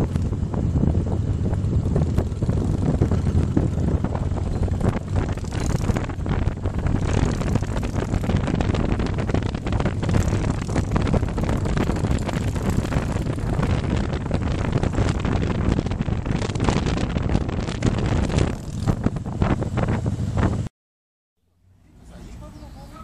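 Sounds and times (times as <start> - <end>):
motorcycle engine: 0.0 - 20.7
road noise: 0.0 - 20.7, 21.4 - 23.0
wind buffeting microphone: 0.0 - 20.7.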